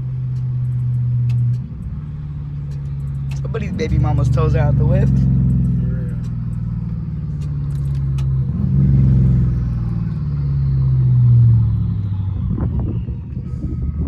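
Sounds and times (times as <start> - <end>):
car exhaust revving: 0.0 - 14.0.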